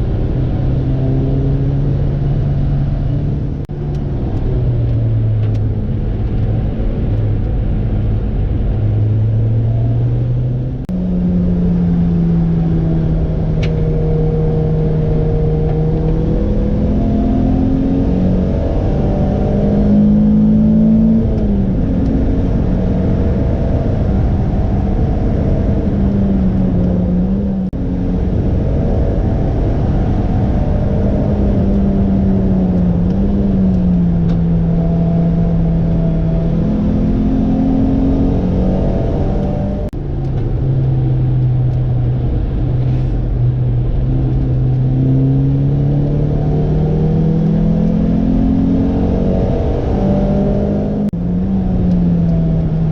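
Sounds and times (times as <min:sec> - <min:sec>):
sports car engine changing gears: 0:00.0 - 0:52.9.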